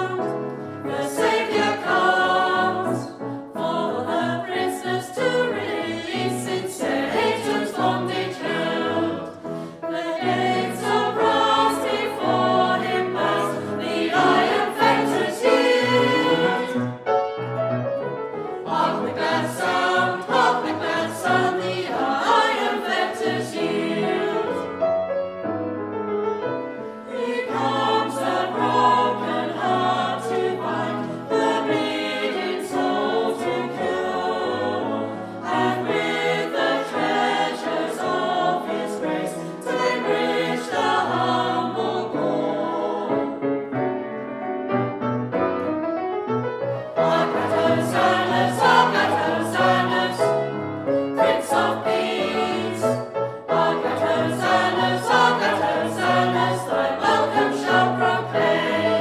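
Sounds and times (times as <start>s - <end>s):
choir singing a carol: 0.0s - 17.2s, 18.3s - 24.9s, 26.5s - 44.7s, 46.9s - 59.0s
piano accompaniment: 0.0s - 59.0s.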